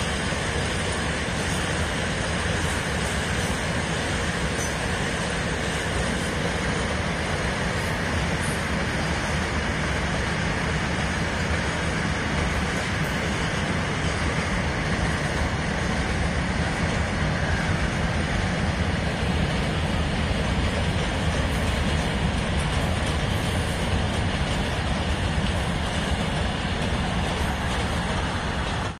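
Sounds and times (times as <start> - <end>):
train wheels on rails: 0.0 - 28.9.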